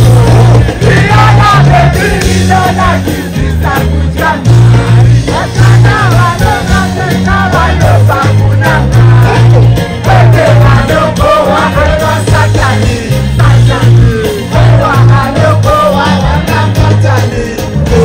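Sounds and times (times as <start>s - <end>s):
heavy bass line: 0.0s - 18.0s
lead singer: 0.0s - 18.0s
live concert music: 0.0s - 18.0s.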